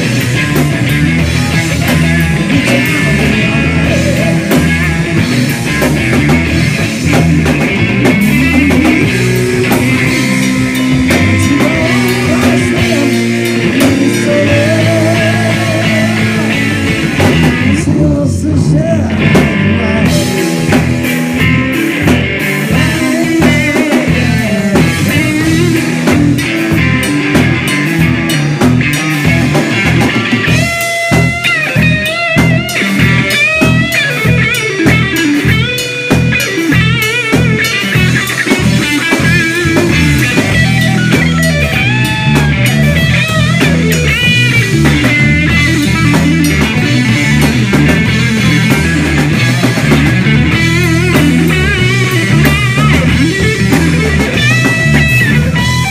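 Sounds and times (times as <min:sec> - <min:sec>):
steady drum beat: 0:00.0 - 0:18.2, 0:19.1 - 0:55.9
electric guitar lead with bent notes: 0:00.0 - 0:55.9
live rock band playing: 0:00.0 - 0:55.9.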